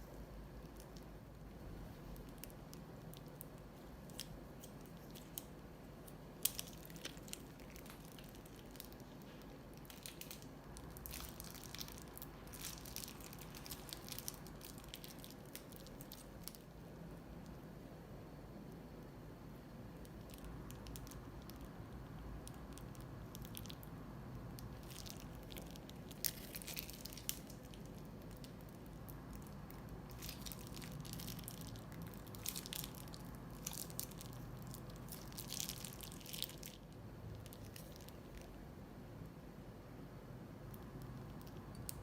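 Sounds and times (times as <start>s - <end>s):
slime squishing and crackling: 0.0s - 17.1s, 19.9s - 38.6s
low steady hum: 0.0s - 42.0s.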